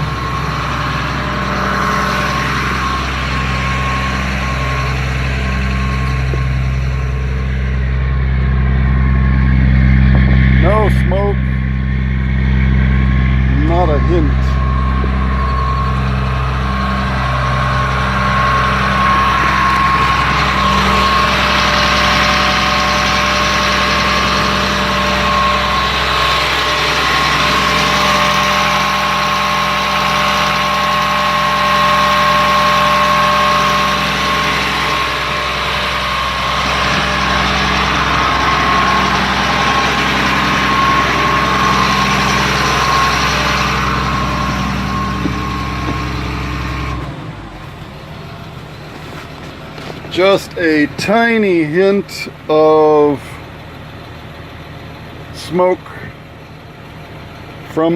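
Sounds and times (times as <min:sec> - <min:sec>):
diesel bus engine idling: 0:00.0 - 0:57.9
high whine: 0:00.0 - 0:57.9.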